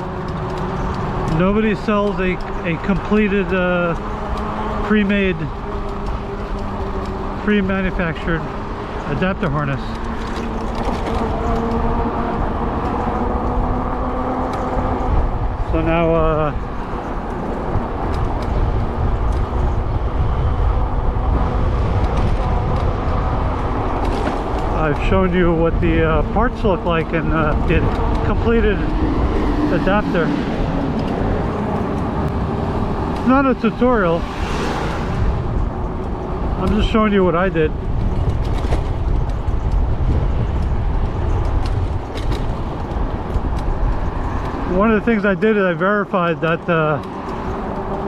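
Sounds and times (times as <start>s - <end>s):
bike tyres rolling: 0.0s - 48.0s
wind across microphone: 0.0s - 48.0s.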